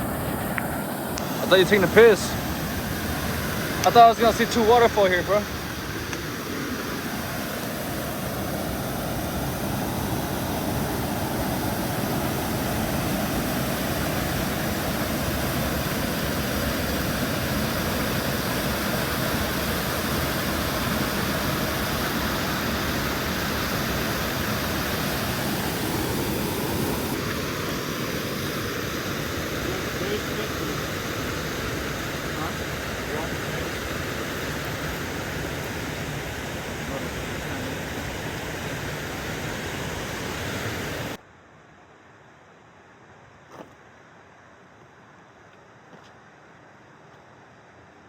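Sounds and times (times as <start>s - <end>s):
waterfall roaring: 0.0s - 41.2s.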